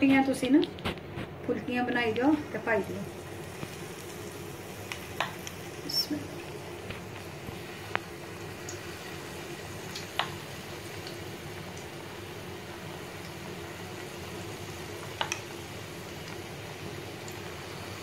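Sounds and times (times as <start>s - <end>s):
batter sizzling in hot oil: 1.5s - 18.0s.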